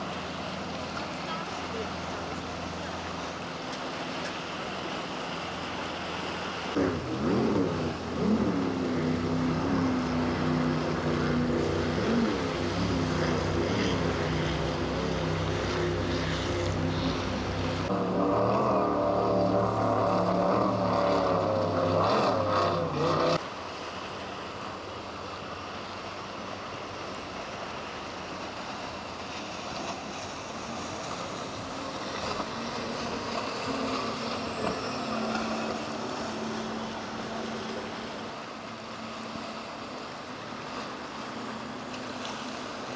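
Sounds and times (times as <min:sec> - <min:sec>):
motorboat engines running: 0:00.0 - 0:42.9
waves: 0:00.0 - 0:42.9
wind: 0:00.0 - 0:42.9.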